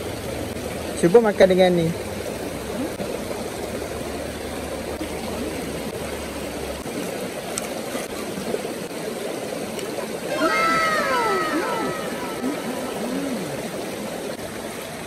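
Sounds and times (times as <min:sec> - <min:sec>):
stream babbling over rocks: 0:00.0 - 0:15.0.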